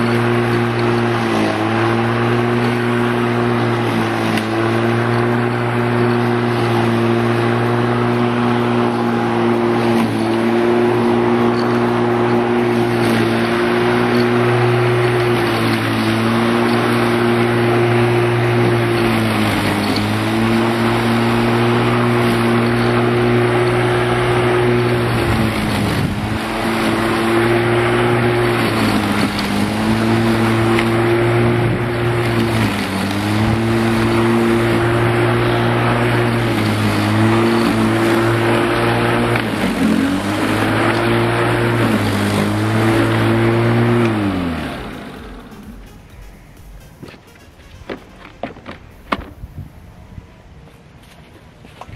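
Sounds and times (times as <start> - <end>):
electric lawn mower running: 0.0 - 49.9.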